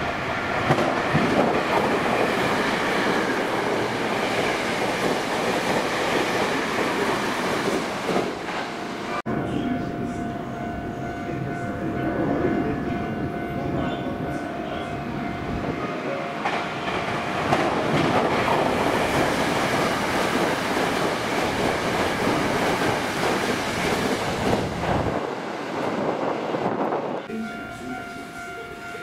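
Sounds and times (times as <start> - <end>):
electric train passing: 0.0 - 29.0.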